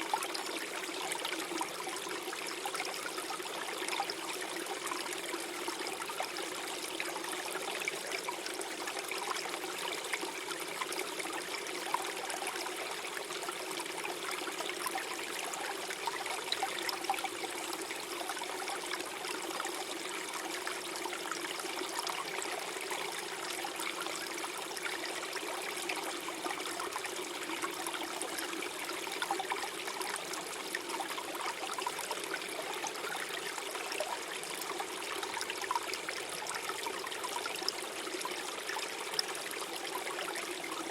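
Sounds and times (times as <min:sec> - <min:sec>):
stream gurgling over stones: 0:00.0 - 0:40.9.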